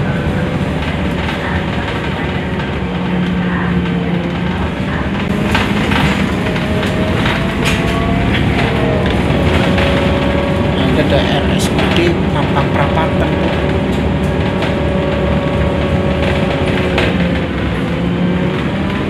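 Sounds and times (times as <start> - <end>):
bus engine and road rumble: 0.0 - 19.0
held drifting tones: 0.0 - 19.0.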